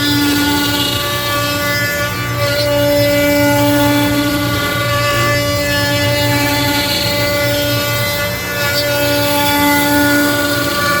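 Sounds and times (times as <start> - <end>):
router motor cutting wood: 0.0 - 11.0.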